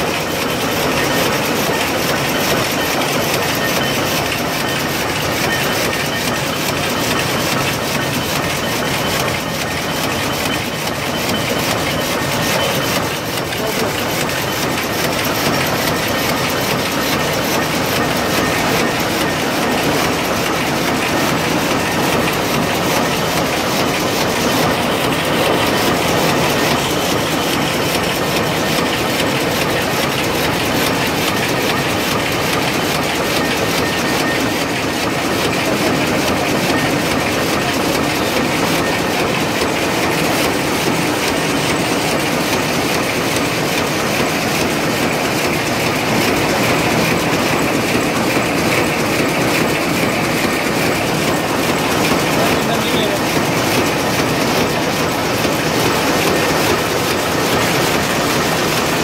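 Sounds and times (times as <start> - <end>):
loom mechanical clatter: 0.0 - 59.0.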